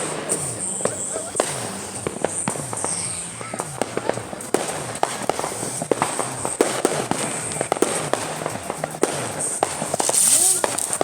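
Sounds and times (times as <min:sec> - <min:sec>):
firecrackers banging and popping: 0:00.0 - 0:11.0
fireworks whistling: 0:00.0 - 0:11.0.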